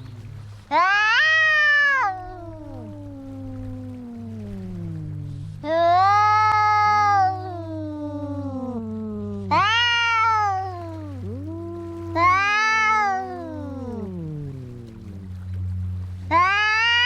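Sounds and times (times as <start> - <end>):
cats yowling: 0.0 - 15.3, 16.2 - 17.0
steady low hum: 0.0 - 17.0.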